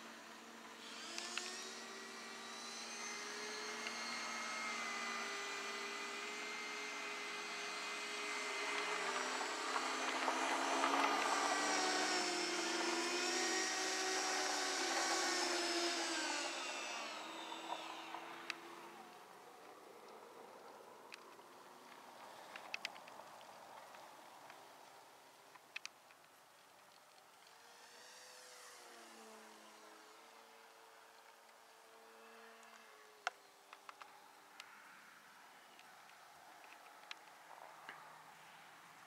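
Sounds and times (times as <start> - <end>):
model plane motor droning: 0.0 - 24.4, 26.9 - 38.3.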